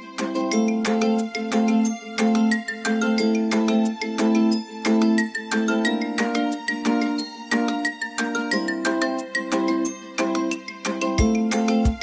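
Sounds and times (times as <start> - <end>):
bright chime-like background music: 0.0 - 12.0.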